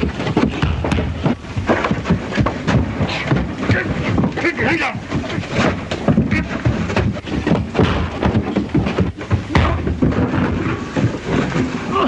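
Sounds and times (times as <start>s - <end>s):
scuffling: 0.0s - 12.0s
thuds of blows: 0.0s - 12.0s.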